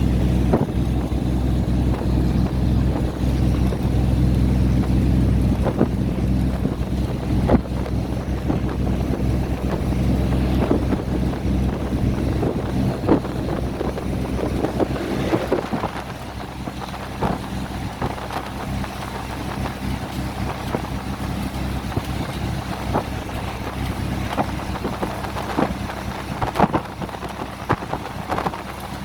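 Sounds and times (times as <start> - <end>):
diesel train engine drone: 0.0 - 29.0.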